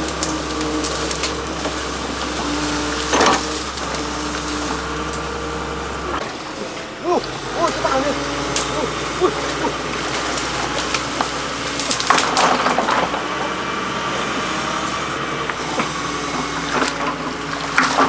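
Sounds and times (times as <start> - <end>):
crackling and crunching: 0.0 - 18.0
motor running: 0.0 - 18.0.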